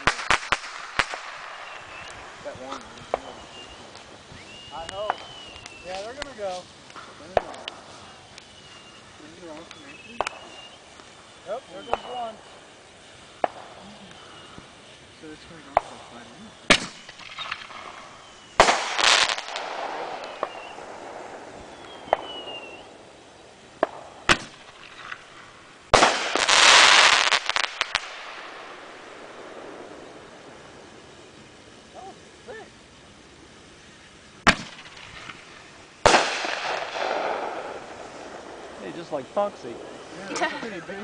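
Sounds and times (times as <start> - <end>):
fireworks bangs with echo: 0.0 - 8.3, 9.0 - 23.2, 23.8 - 30.8, 34.4 - 40.6
fireworks crackling burst: 0.0 - 41.0.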